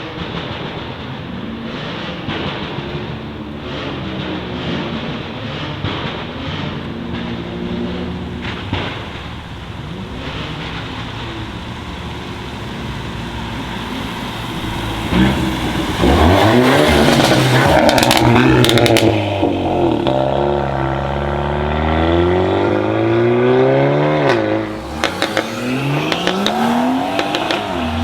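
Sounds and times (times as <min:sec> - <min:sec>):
sharp exhaust cracks: 0:00.0 - 0:21.6, 0:24.2 - 0:28.0
car engines idling: 0:00.0 - 0:23.3, 0:24.2 - 0:28.0
car accelerating hard: 0:00.0 - 0:28.0.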